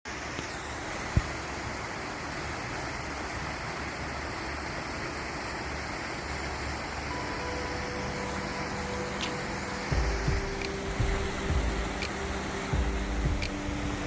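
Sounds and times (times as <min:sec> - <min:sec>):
river water rushing: 0:00.1 - 0:14.0.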